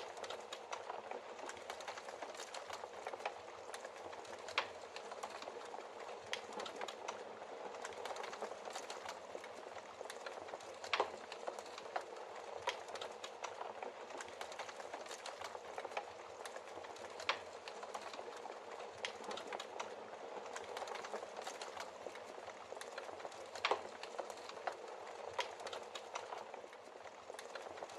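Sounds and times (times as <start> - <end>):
fire crackling and popping: 0.0 - 27.9
logs burning in fireplace: 0.0 - 27.9.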